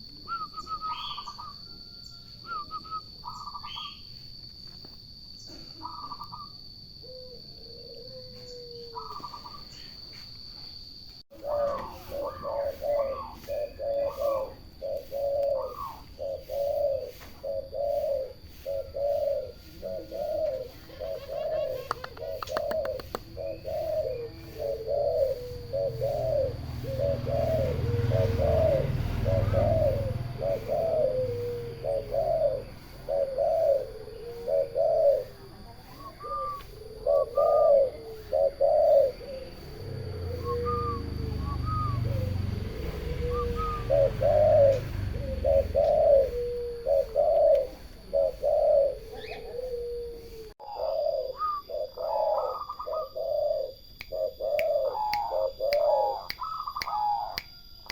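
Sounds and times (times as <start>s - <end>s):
turtle doves cooing: 0.0s - 4.4s, 5.4s - 10.1s, 11.3s - 57.9s.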